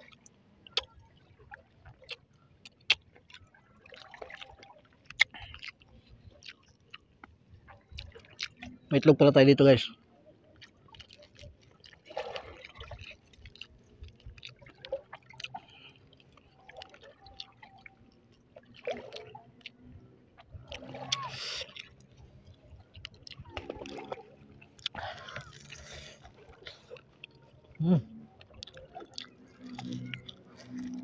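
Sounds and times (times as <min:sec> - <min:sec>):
wet squishes of food: 0:00.0 - 0:08.8, 0:10.4 - 0:31.0.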